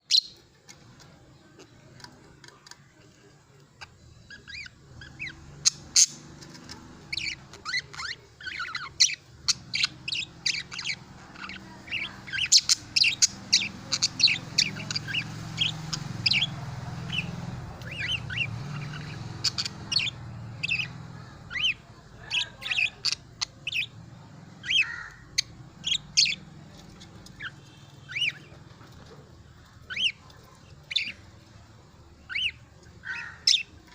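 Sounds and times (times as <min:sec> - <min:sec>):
budgerigars chirping: 0:00.1 - 0:00.4, 0:03.8 - 0:33.9.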